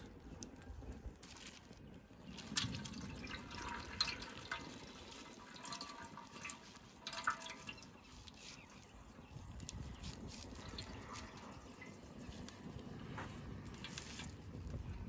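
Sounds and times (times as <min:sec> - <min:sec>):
oil crackling and popping in pot: 0:00.0 - 0:15.0.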